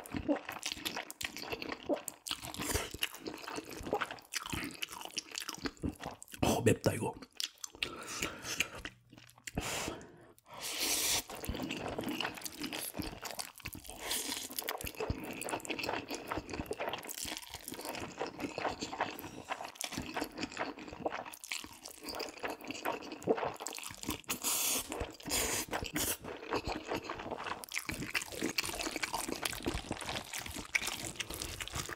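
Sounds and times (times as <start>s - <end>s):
chewing and crunching food: 0.0s - 31.9s.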